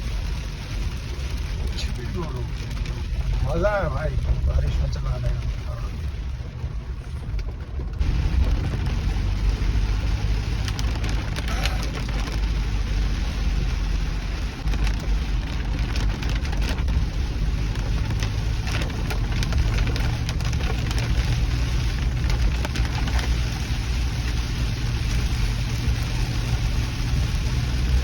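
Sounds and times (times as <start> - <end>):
car engine drone: 0.0 - 28.0
heavy rain hissing: 0.0 - 28.0
raindrop ticks: 0.0 - 28.0
road noise: 0.0 - 28.0.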